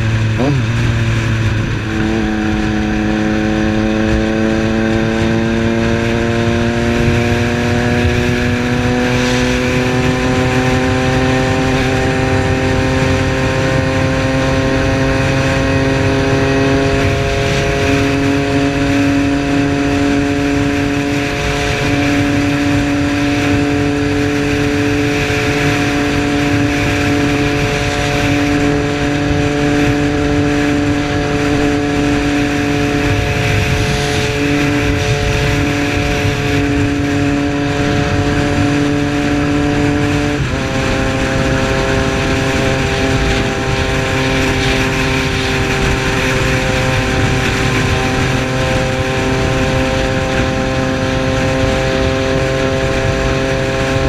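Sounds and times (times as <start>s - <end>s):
motorcycle engine running: 0.0s - 54.0s
rush of noise: 0.0s - 54.0s.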